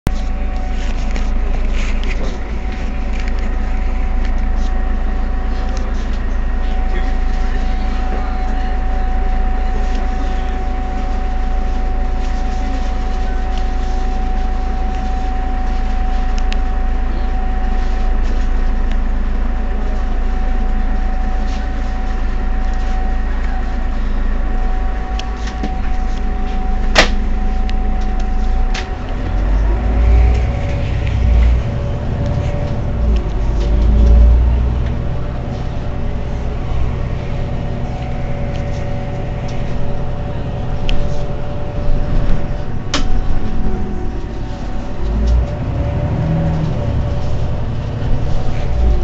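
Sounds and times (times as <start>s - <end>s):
bus diesel engine idling: 0.0s - 49.0s.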